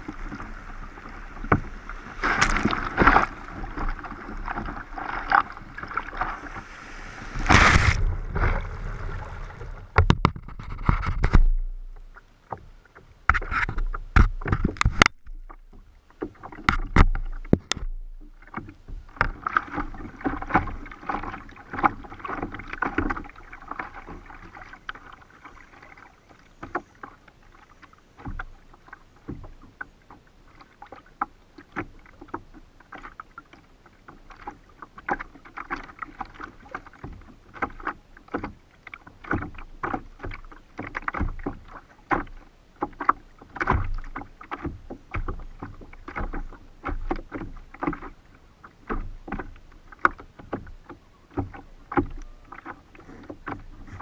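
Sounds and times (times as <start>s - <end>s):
water slapping against kayak hull: 0.0s - 54.0s.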